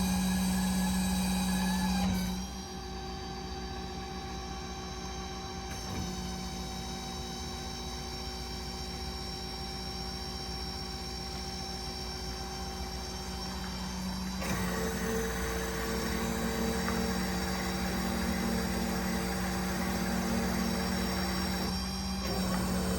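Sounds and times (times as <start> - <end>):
steady machine hum: 0.0 - 22.9.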